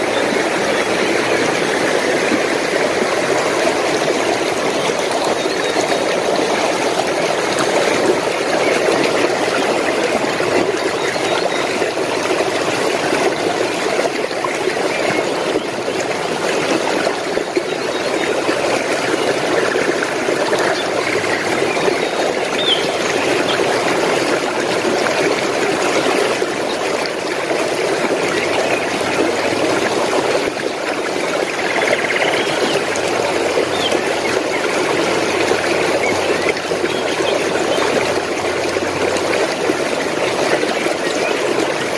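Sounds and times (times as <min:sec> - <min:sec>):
stream water babbling: 0:00.0 - 0:41.9.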